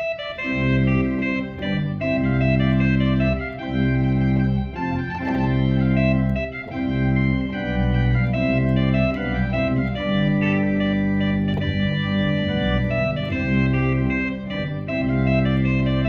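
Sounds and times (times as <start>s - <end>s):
church organ playing chords: 0.0s - 16.0s.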